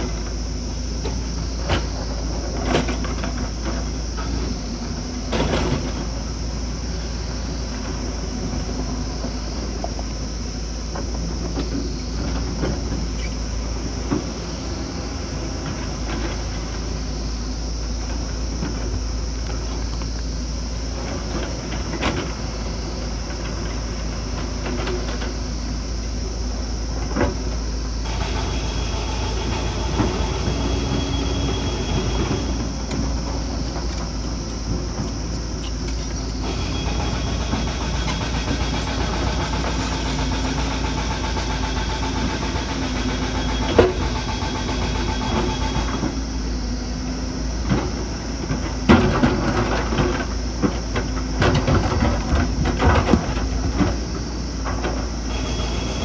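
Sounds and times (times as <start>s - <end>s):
heavy diesel engine running: 0.0s - 56.0s
machine whine: 0.0s - 56.0s.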